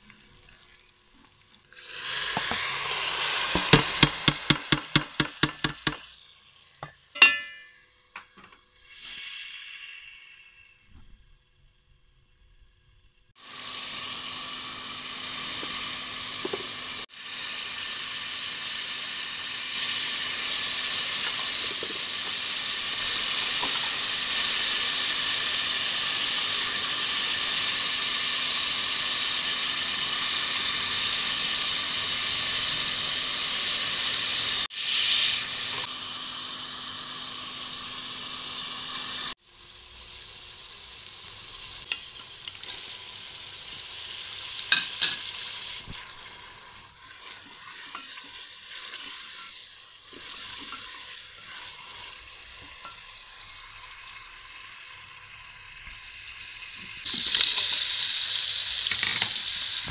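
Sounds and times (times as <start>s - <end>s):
masala sizzling in oil: 0.0s - 11.0s, 13.3s - 59.9s.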